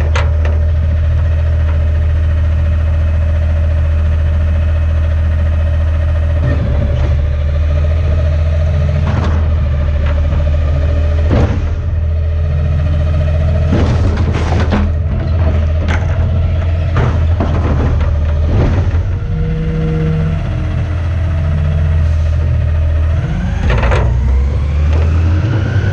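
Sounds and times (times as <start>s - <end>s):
knocks and clunks: 0.0s - 3.4s, 6.2s - 25.8s
truck engine drone with whine: 0.0s - 25.9s.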